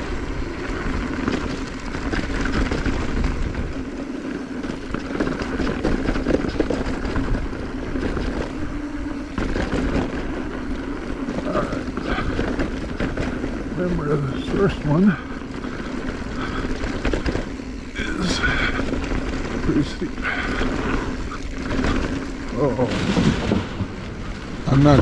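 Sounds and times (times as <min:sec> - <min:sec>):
bike rattling: 0:00.0 - 0:25.0
tyres rumbling over dirt: 0:00.0 - 0:25.0.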